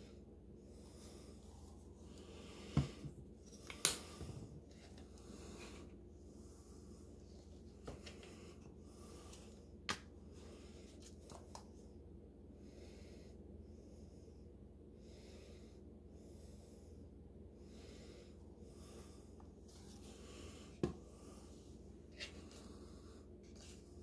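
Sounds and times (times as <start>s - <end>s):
faint low room hum: 0.0s - 24.0s.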